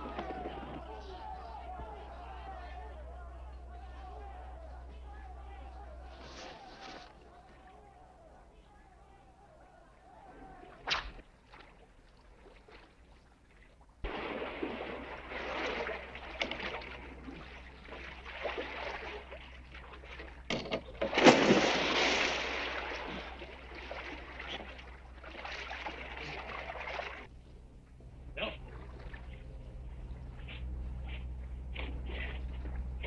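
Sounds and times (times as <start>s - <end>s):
water splashing and sloshing: 0.0s - 8.6s, 9.9s - 33.0s.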